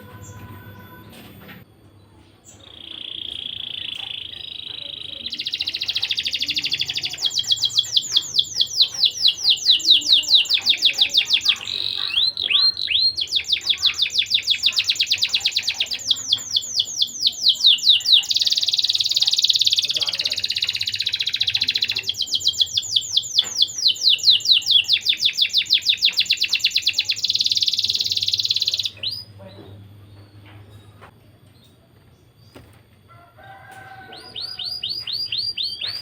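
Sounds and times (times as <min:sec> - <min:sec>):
canary singing trills: 0:02.4 - 0:31.0, 0:33.4 - 0:36.0.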